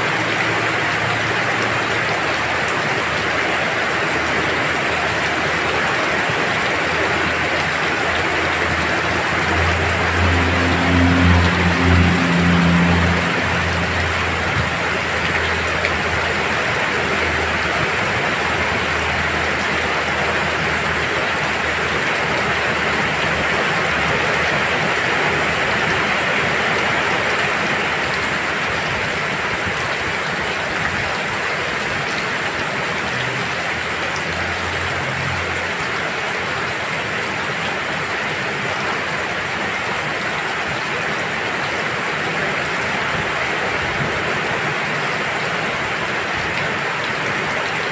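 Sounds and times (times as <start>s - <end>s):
heavy rain on pond and stone: 0.0s - 47.9s.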